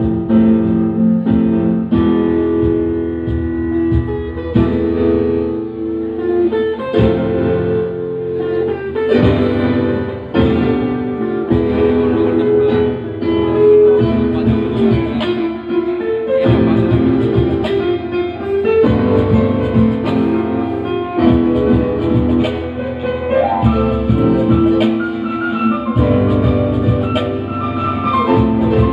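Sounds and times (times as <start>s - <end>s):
electric guitar melody: 0.0s - 28.9s
keyboards: 0.0s - 28.9s.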